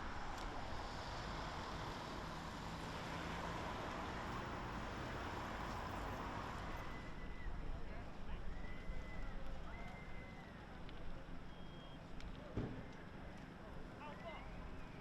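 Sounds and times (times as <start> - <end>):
outdoor background hiss and rumble: 0.0 - 15.0.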